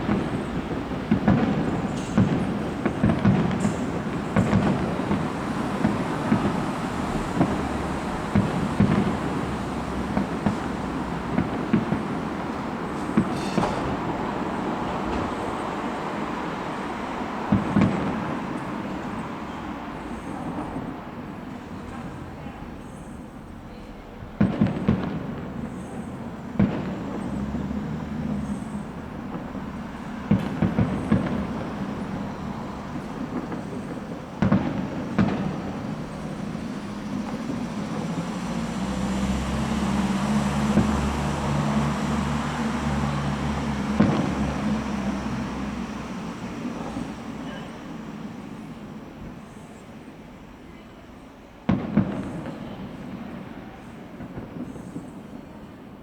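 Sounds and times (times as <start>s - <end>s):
firework shells bursting with booms: 0.0s - 49.7s, 51.7s - 56.0s
rumbling firework crackle: 0.0s - 50.6s, 51.5s - 56.0s.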